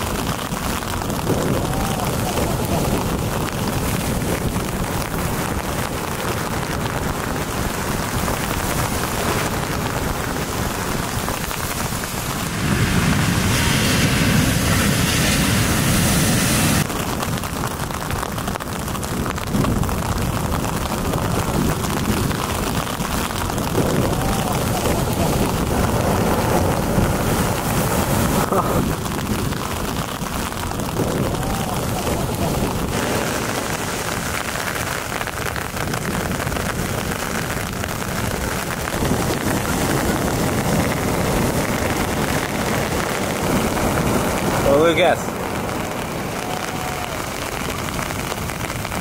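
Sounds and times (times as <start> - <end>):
waves breaking: 0.0 - 49.0.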